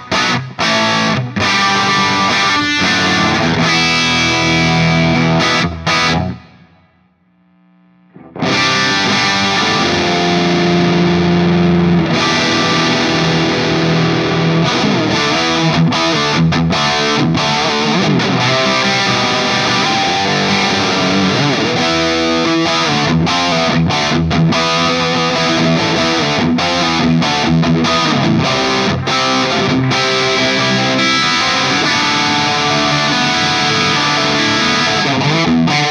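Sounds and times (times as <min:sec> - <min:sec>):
overdriven electric guitar: 0:00.0 - 0:35.9.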